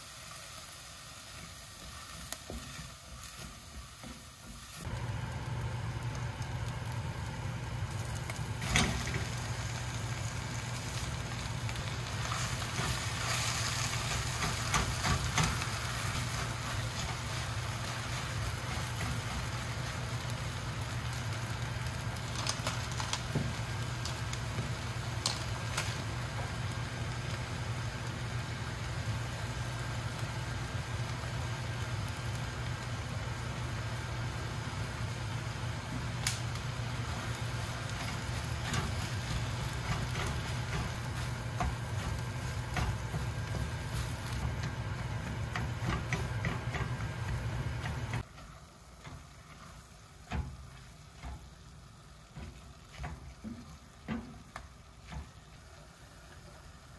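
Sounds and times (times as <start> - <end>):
food sizzling in frying pan: 0.0 - 56.9.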